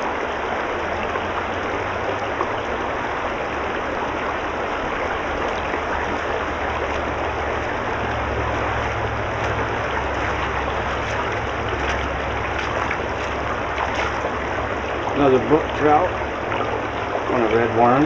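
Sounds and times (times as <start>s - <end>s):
creek rushing over stones: 0.0s - 18.0s
person wading splashes: 0.0s - 18.0s.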